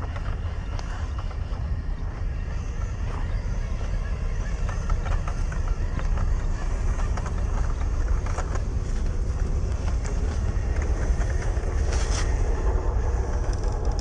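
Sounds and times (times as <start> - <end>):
rc truck low rumble: 0.0 - 14.0
tyres crackling over rough ground: 0.0 - 14.0.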